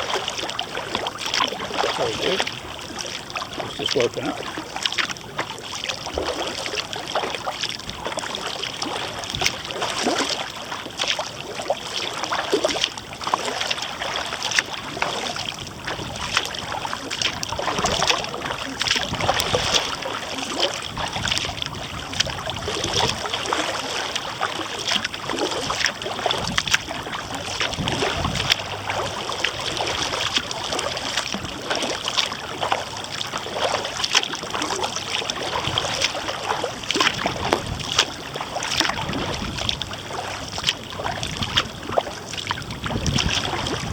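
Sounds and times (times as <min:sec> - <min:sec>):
water splashing around kayak: 0:00.0 - 0:43.9.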